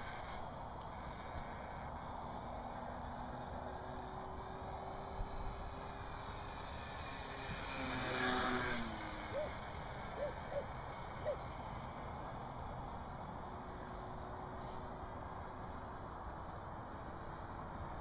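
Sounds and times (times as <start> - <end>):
model plane propeller droning: 0.0 - 18.0.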